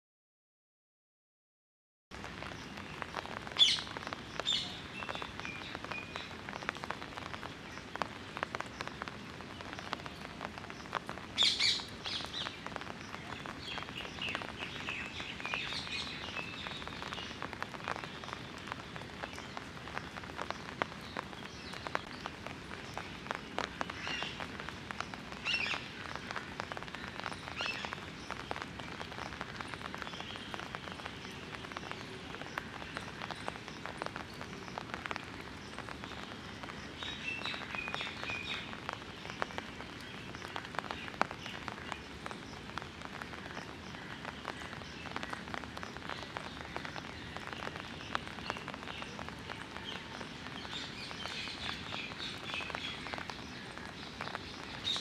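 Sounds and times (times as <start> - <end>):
light rain drizzling: 2.1 - 55.0.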